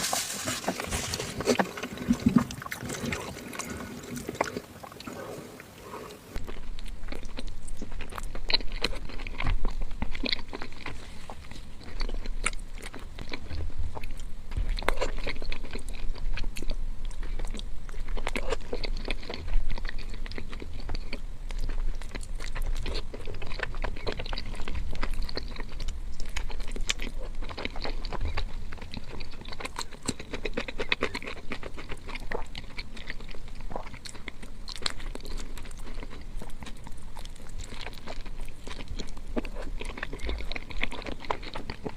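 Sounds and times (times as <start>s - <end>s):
wet chewing: 0.0s - 41.9s
crunchy bites: 6.4s - 41.9s.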